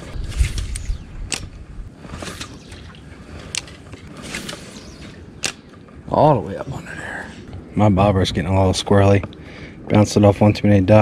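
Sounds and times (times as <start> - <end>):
low rumble: 0.0 - 9.8.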